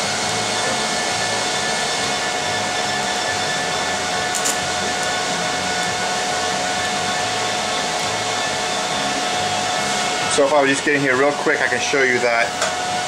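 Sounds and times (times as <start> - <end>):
welding arc hissing: 0.0 - 13.0.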